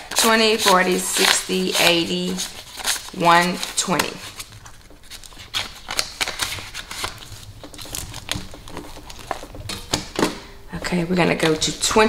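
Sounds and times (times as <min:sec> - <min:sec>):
paper banknotes rustling: 0:00.0 - 0:10.1
plastic binder pocket crinkling: 0:00.0 - 0:12.0.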